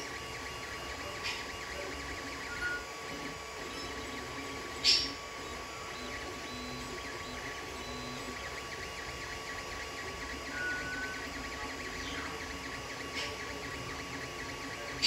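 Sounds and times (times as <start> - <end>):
cooling fans humming: 0.0 - 15.0
stepper motors whining: 0.0 - 15.0.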